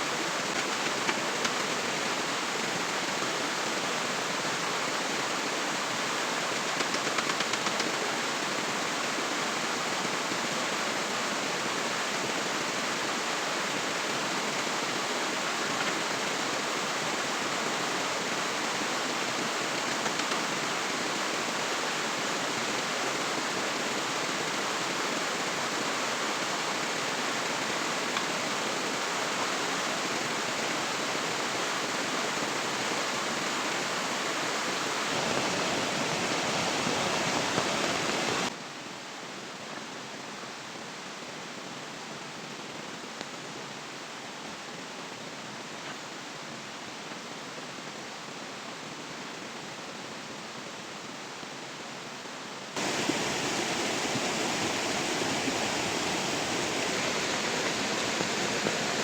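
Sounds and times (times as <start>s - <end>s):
rushing water: 0.0s - 38.6s, 50.3s - 59.0s.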